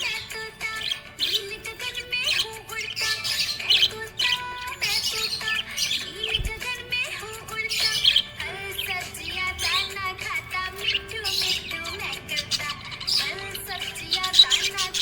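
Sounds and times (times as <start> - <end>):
budgerigar chirping and warbling: 0.0 - 15.0.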